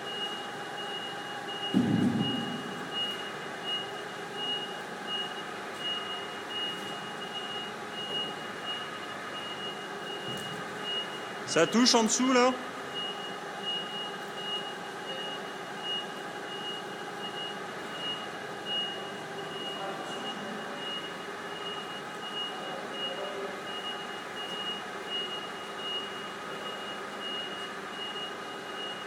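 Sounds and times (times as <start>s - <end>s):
high warning beeps: 0.0s - 29.0s.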